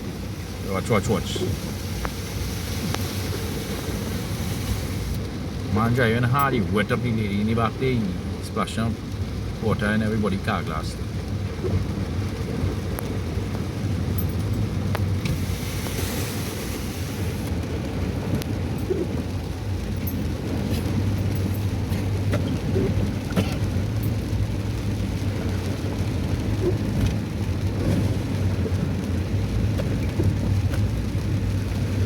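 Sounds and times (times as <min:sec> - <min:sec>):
rain and water hissing: 0:00.0 - 0:32.0
rushing water: 0:00.0 - 0:32.0.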